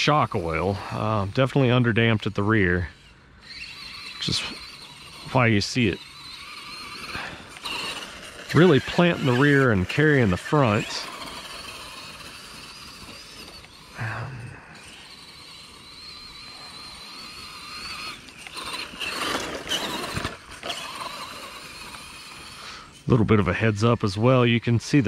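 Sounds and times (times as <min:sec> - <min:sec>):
rc truck electric motor whining: 0:00.0 - 0:25.0.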